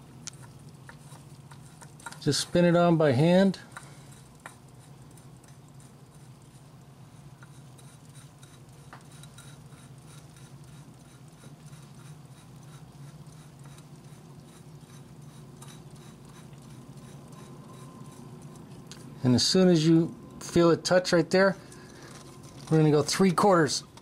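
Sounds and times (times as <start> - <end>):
steady low hum: 0.0 - 24.0
oil filter rubbing and clicking: 0.1 - 24.0.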